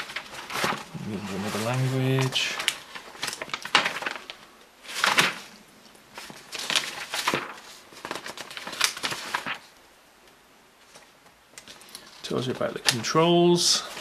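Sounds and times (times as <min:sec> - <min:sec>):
paper pages turning: 0:00.0 - 0:09.7, 0:10.8 - 0:14.0.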